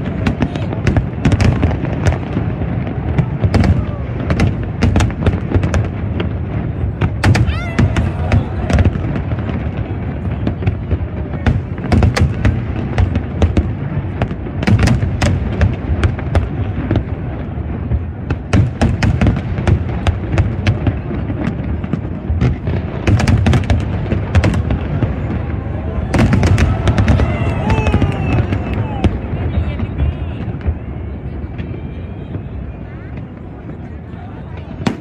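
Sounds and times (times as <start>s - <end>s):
fireworks bangs and cracks: 0.0s - 35.0s.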